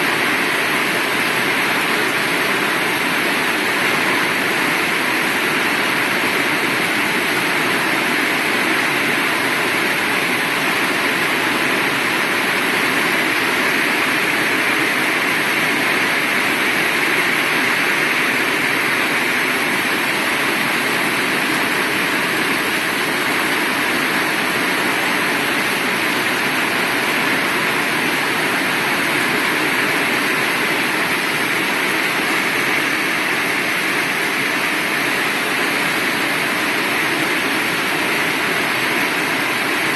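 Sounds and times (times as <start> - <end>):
heavy rain falling: 0.2 - 39.9.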